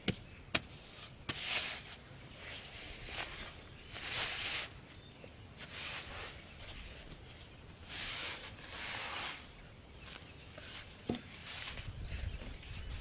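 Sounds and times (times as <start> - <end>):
rough scraping strokes: 0.6 - 12.3.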